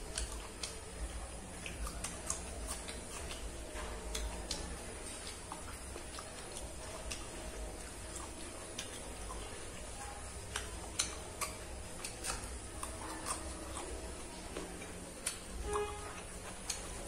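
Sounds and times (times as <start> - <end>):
lip smacks: 0.0 - 17.0
wet chewing clicks: 0.0 - 17.0.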